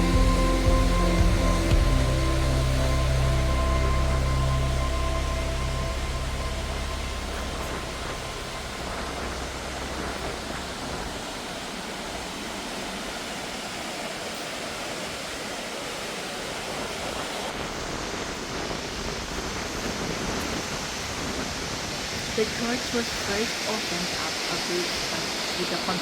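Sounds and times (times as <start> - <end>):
white water river rushing: 0.0 - 26.0.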